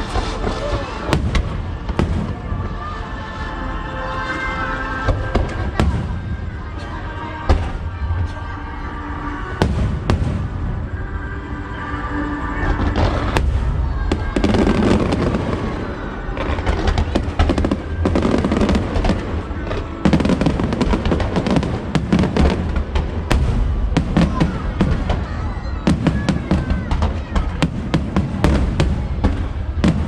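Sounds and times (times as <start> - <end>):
music playing: 0.0 - 27.4
fireworks bangs and crackling: 0.0 - 30.0.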